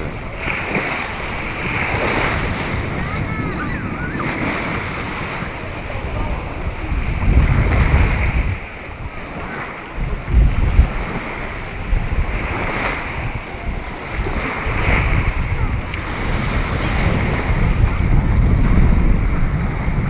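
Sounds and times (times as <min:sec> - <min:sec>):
waves washing onto beach: 0:00.0 - 0:20.0
wind buffeting microphone: 0:00.0 - 0:20.0.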